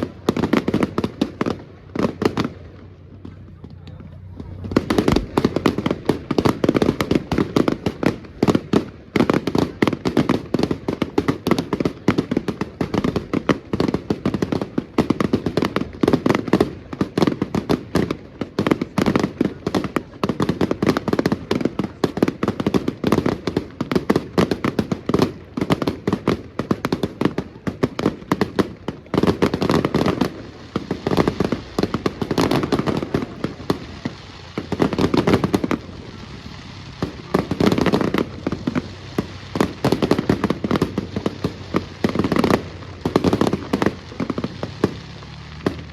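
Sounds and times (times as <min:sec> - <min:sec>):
fireworks barrage: 0:00.0 - 0:45.9.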